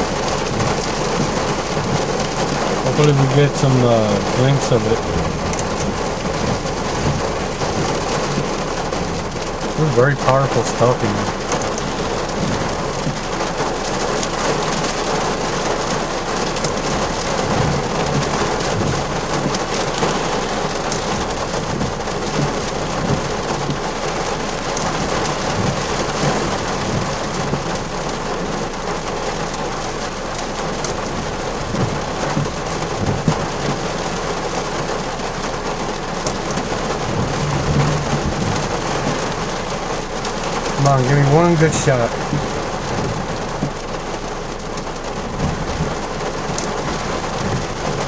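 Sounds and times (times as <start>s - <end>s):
heavy rain on car roof: 0.0s - 48.0s.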